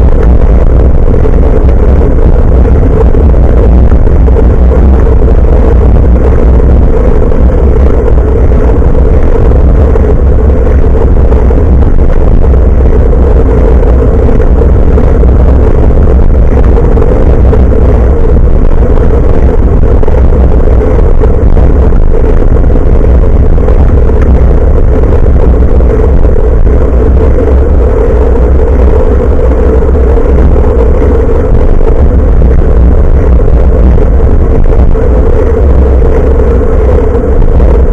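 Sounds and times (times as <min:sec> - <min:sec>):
mid-pitched hum: 0:00.0 - 0:37.9
road rumble: 0:00.0 - 0:37.9
wind noise on microphone: 0:00.0 - 0:37.9.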